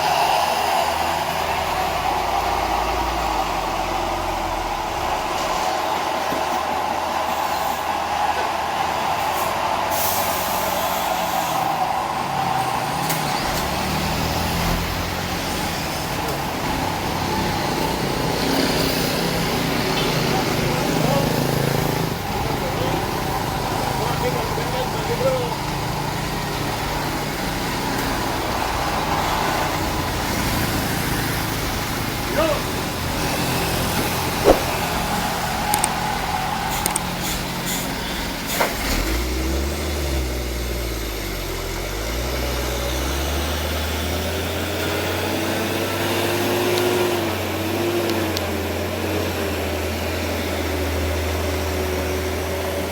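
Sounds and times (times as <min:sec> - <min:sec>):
road noise: 0:00.0 - 0:52.9
truck diesel engine climbing: 0:00.0 - 0:52.9.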